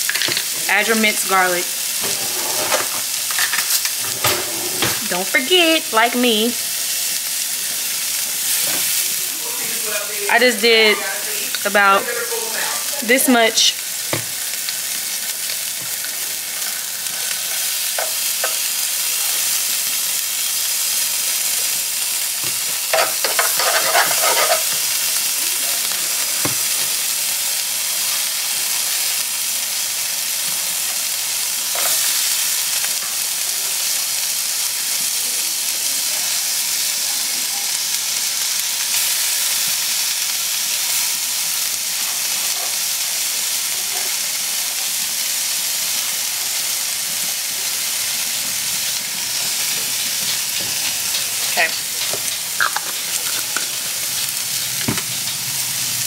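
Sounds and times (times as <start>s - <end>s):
vegetables sizzling in butter: 0.0s - 56.0s.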